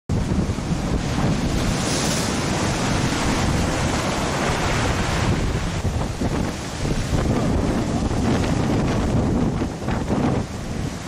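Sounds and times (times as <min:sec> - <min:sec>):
waves washing around boats: 0:00.1 - 0:11.0
wind buffeting microphone: 0:00.1 - 0:11.0.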